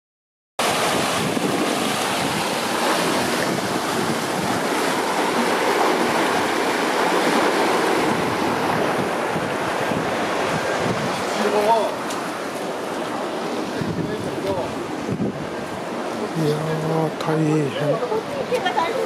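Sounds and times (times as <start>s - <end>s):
floodwater rushing: 0.6s - 19.0s.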